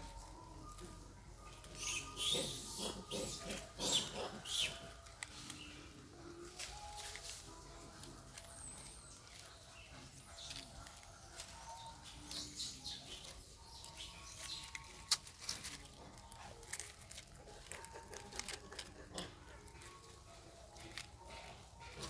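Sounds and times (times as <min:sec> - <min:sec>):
dry leaves and twigs crackling: 0:00.0 - 0:22.0.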